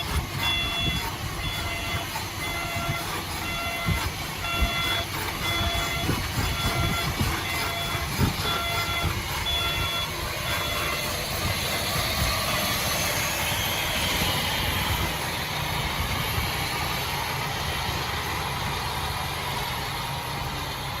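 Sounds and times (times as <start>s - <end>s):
mechanical clatter: 0.0s - 16.8s
diesel engine rumble: 0.0s - 21.0s.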